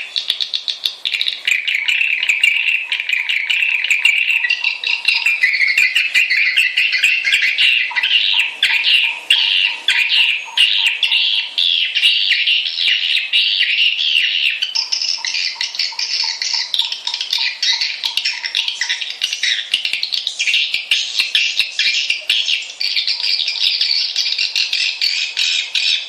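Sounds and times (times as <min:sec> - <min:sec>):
swiftlets chirping: 0:00.0 - 0:14.0, 0:14.6 - 0:25.4.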